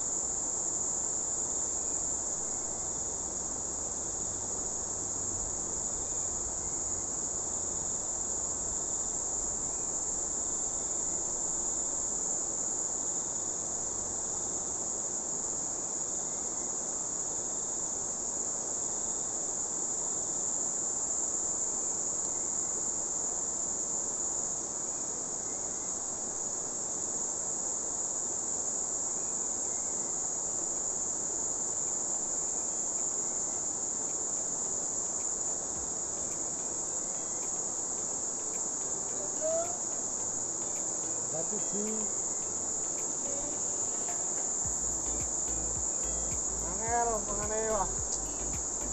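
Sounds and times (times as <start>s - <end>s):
high-pitched insect drone: 0.0s - 48.9s.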